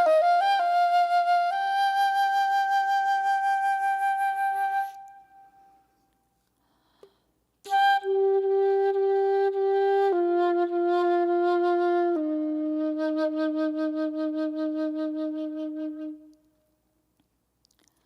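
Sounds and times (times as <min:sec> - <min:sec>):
flute-like held notes: 0:00.0 - 0:06.0, 0:07.7 - 0:16.5.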